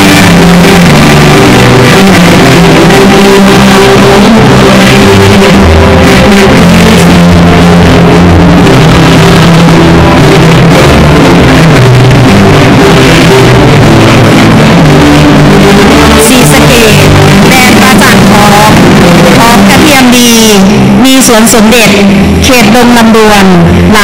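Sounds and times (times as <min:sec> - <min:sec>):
instrumental music with low notes: 0:00.0 - 0:24.0.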